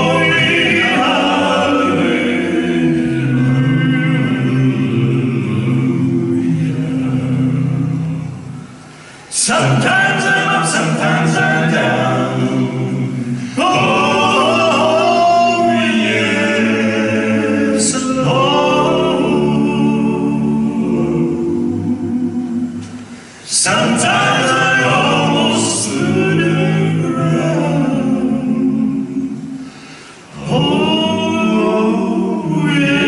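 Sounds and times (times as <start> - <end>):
male vocal quartet singing: 0.0 - 33.0.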